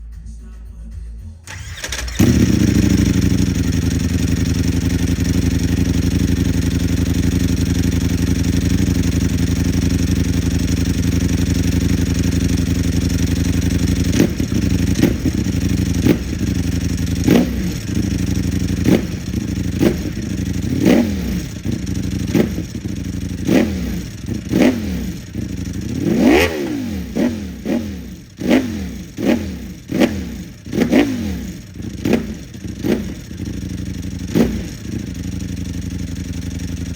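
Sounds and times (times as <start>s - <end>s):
motorcycle engine idling: 1.5s - 36.9s
motorcycle engine revving: 1.5s - 36.9s.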